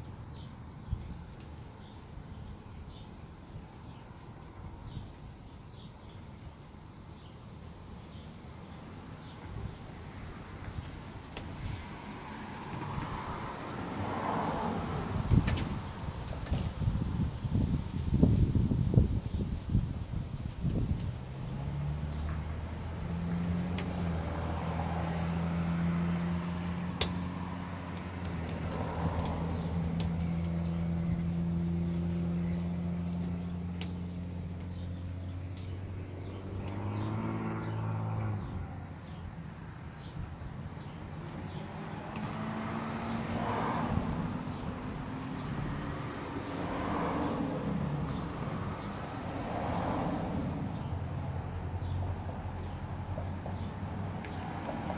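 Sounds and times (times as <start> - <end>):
light traffic: 0.0 - 54.9
vehicle engine humming: 9.2 - 54.9
vehicle passing by: 10.0 - 54.9.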